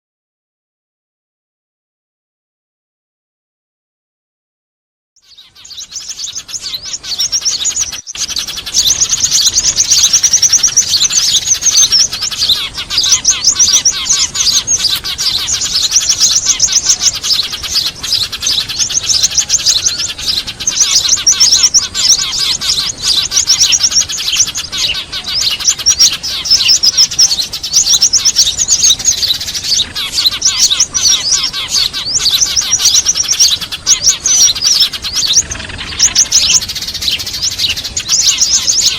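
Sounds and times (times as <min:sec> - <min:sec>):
flock of sparrows chattering: 0:05.2 - 0:38.9.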